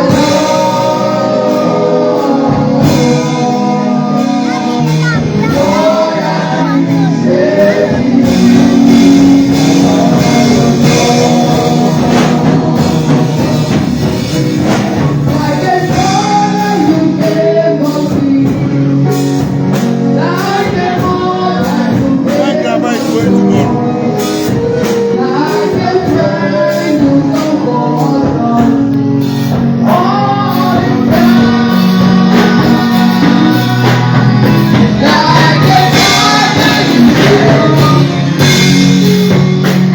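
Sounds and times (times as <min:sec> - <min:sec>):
gospel singing: 0:00.0 - 0:39.9
instrumental accompaniment: 0:00.0 - 0:39.9.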